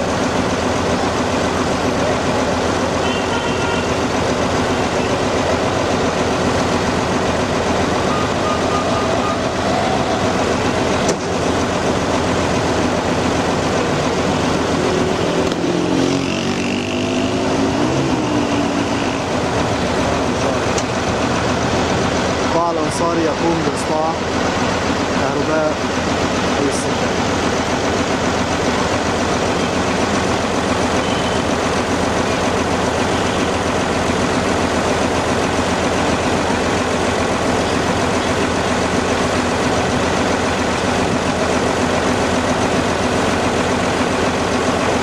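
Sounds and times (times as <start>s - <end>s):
engine running steadily: 0.0s - 45.0s.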